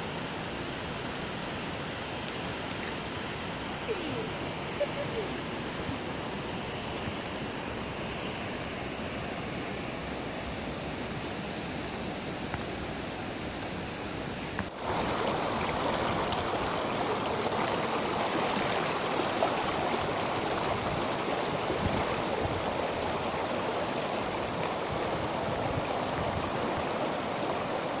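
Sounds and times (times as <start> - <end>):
river water rushing over rocks: 0.0 - 28.0.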